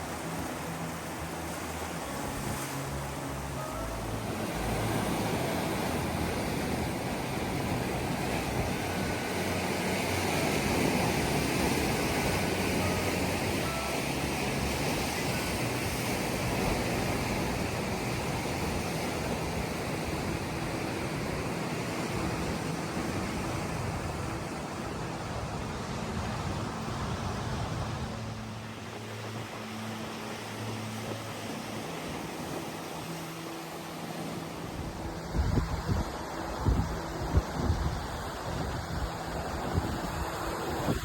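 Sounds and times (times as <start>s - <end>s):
sea water rushing: 0.0s - 41.0s.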